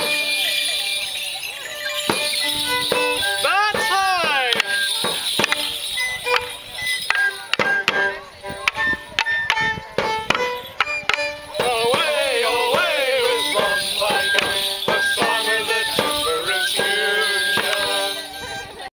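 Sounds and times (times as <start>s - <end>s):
bells jingling: 0.0s - 18.9s
folk dance tune: 0.0s - 18.9s
wooden sticks clacking: 2.0s - 18.2s.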